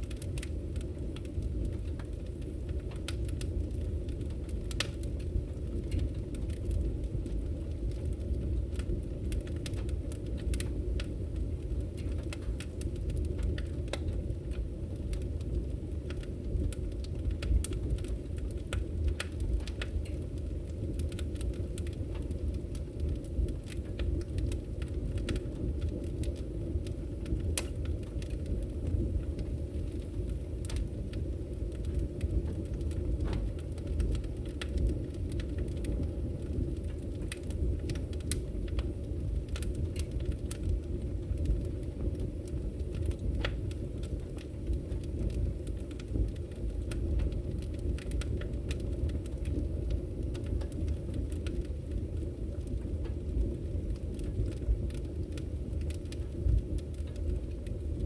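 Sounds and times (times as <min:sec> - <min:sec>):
fire roaring: 0:00.0 - 0:58.0
wood crackling and popping: 0:00.0 - 0:58.0.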